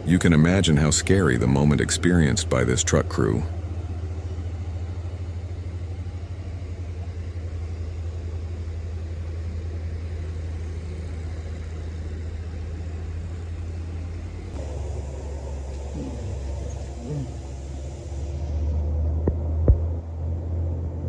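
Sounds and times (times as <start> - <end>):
large vehicle engine rumbling: 0.0 - 21.0.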